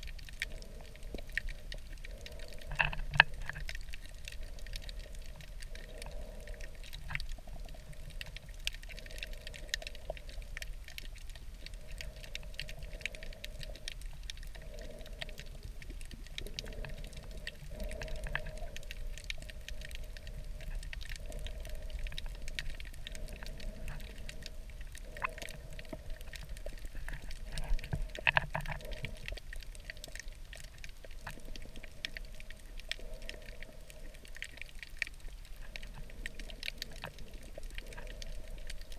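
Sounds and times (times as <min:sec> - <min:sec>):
crackle of fine clicks: 0:00.0 - 0:38.9
intermittent hum: 0:00.0 - 0:38.9
low underwater rumble: 0:00.0 - 0:38.9.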